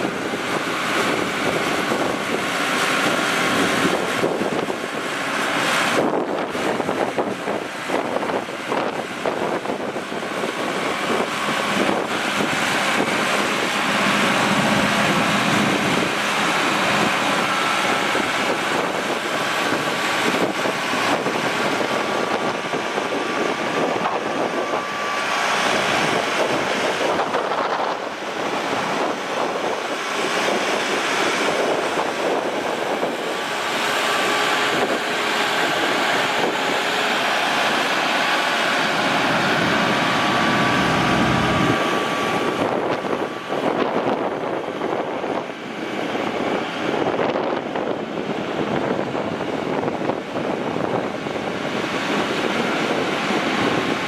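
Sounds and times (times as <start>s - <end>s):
tractor diesel engine running: 0.0s - 54.0s
wind buffeting microphone: 0.0s - 54.0s.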